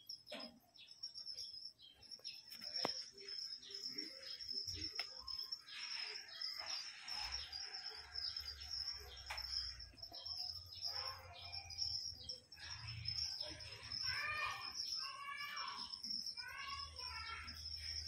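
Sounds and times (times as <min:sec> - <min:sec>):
birds chirping: 0:00.0 - 0:18.0
high-pitched insect-like drone: 0:02.6 - 0:18.0.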